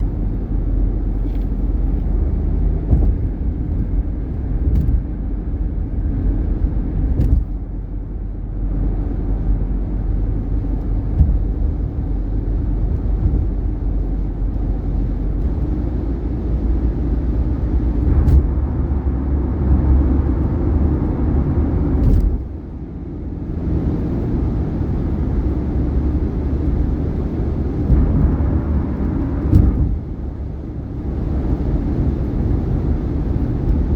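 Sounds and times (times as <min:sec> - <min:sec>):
tyre and road noise: 0:00.0 - 0:33.9.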